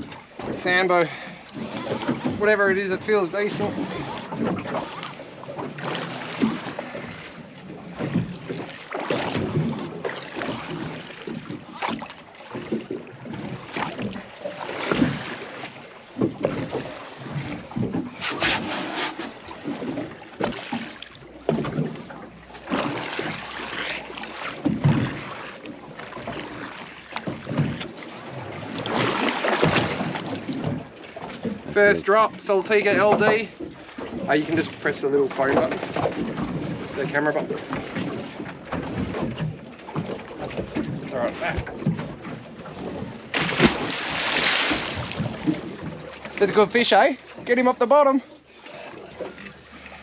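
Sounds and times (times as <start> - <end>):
water splashing against boat hull: 0.0 - 50.0.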